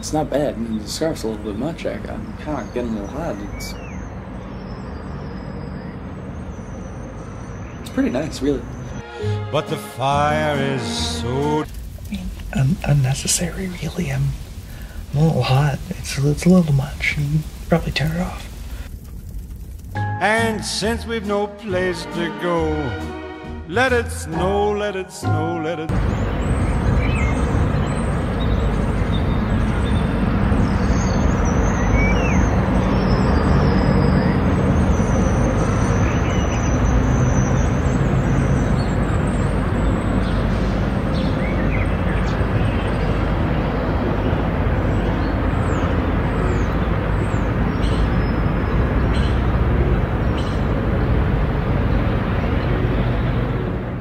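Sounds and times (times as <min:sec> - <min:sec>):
traffic noise: 0:00.0 - 0:20.0, 0:25.9 - 0:54.0.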